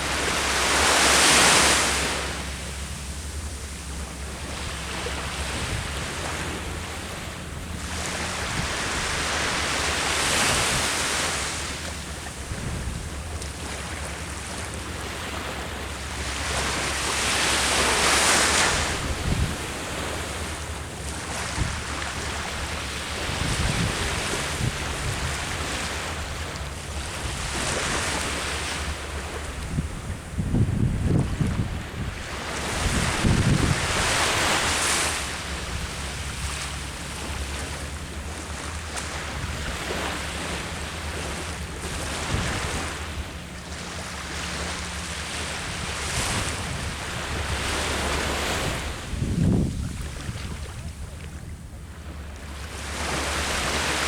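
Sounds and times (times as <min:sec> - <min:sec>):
sea waves breaking: 0:00.0 - 0:54.0
wind rumbling on microphone: 0:00.0 - 0:54.0.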